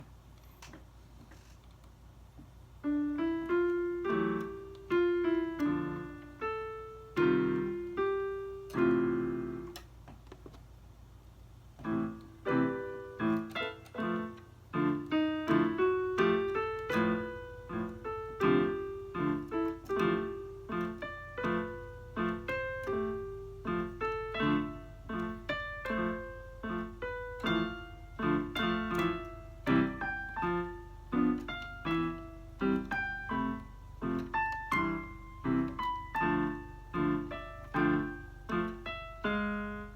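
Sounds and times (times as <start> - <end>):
electronic keyboard piano notes: 2.8 - 9.9, 11.8 - 39.9.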